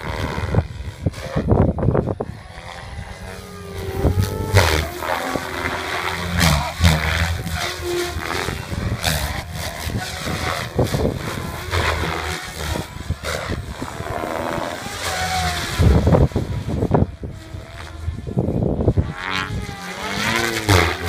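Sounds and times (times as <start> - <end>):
electric motor whining: 0.0 - 21.0
rotor blades swishing: 0.0 - 21.0
low buffeting: 1.4 - 19.8.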